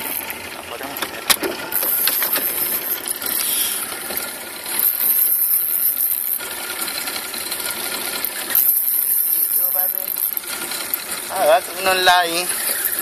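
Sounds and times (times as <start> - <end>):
fishing reel cranking and drag: 1.7 - 13.0.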